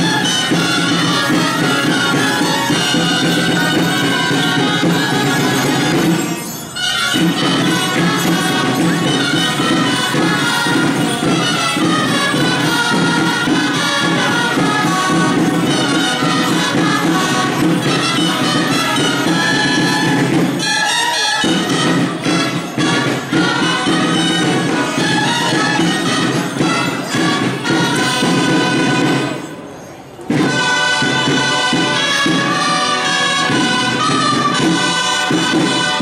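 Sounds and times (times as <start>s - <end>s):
drums: 0.0s - 36.0s
reedy wind instruments: 0.0s - 36.0s.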